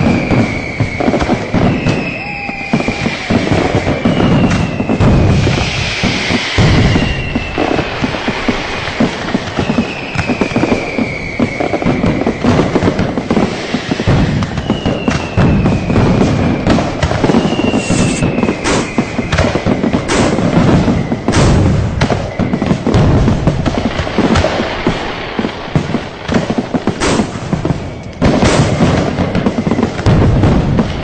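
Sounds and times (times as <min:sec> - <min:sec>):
firecrackers crackling: 0:00.0 - 0:31.0
fireworks bangs: 0:00.0 - 0:31.0
whistling fireworks: 0:00.0 - 0:31.0.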